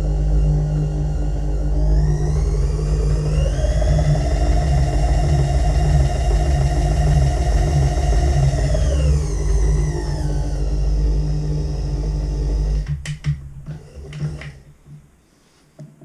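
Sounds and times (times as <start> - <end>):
electric motor whine: 0.0 - 13.0, 13.6 - 14.7
steady low hum: 0.0 - 16.0.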